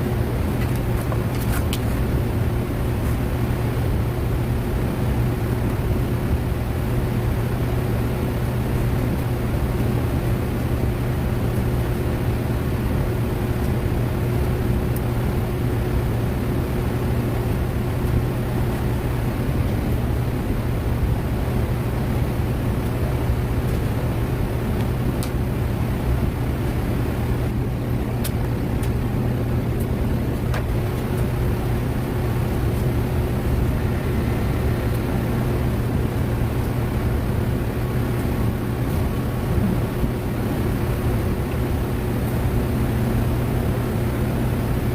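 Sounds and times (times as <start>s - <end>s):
steady mechanical hum: 0.0s - 44.9s.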